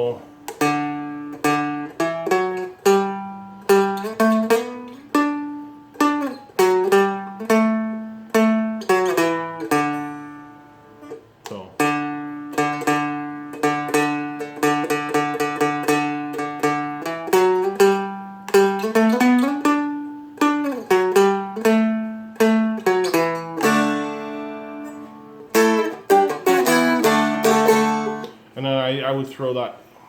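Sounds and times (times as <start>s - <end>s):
acoustic guitar strumming: 0.0s - 29.2s.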